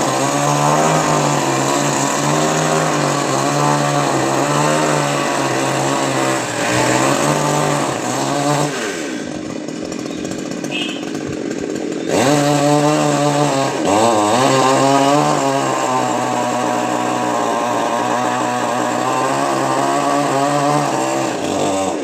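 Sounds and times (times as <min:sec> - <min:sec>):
chainsaw running: 0:00.0 - 0:22.0.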